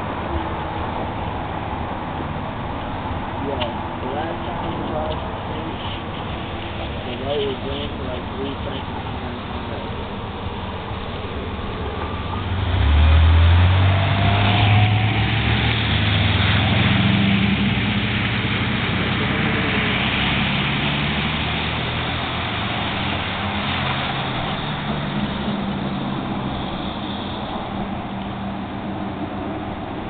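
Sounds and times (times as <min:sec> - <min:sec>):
steady hiss: 0:02.3 - 0:30.0
vehicle engine running: 0:02.6 - 0:30.0.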